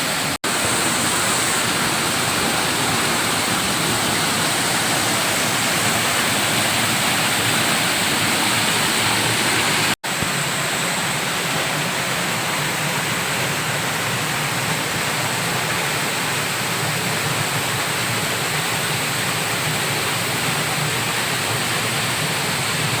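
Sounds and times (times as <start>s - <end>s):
waterfall pouring: 0.0s - 23.0s.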